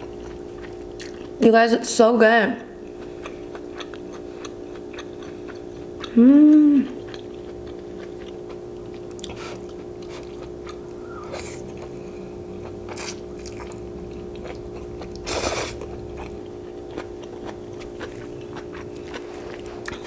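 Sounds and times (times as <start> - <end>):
close-up chewing noodles: 0.0 - 1.4, 2.8 - 20.0
steady low hum: 0.0 - 20.0.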